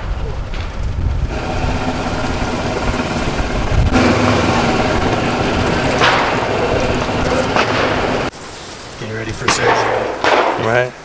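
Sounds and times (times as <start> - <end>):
golf cart driving: 1.2 - 10.2.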